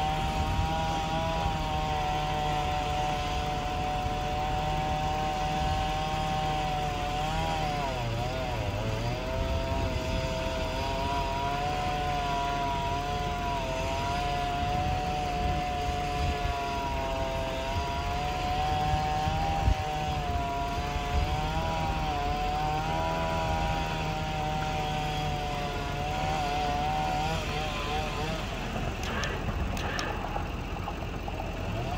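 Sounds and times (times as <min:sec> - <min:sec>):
chainsaw cutting at high revs: 0:00.0 - 0:31.9.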